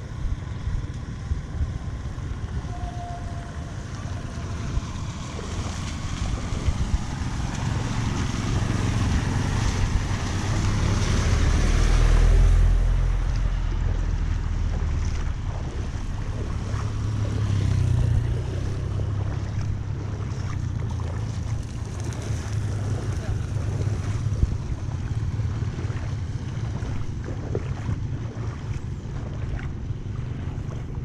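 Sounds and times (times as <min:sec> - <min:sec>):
floodwater rushing into drain: 0:00.0 - 0:31.0
wind buffeting microphone: 0:00.0 - 0:31.0.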